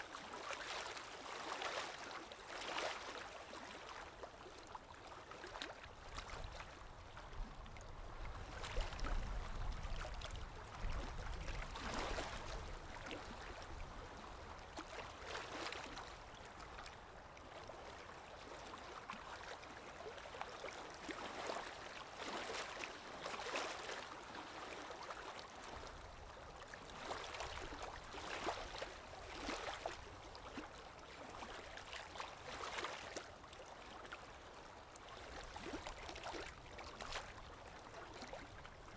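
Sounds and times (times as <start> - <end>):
stream water gurgling and splashing: 0.0 - 38.9.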